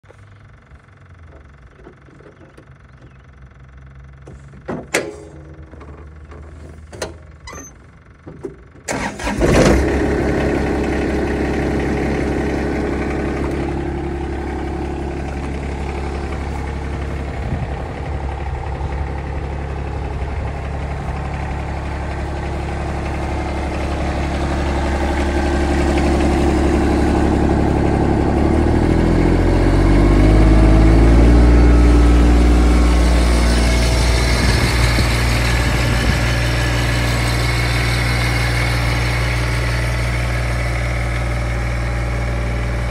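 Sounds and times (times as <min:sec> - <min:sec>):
diesel engine cranking and idling: 0:00.0 - 0:42.9.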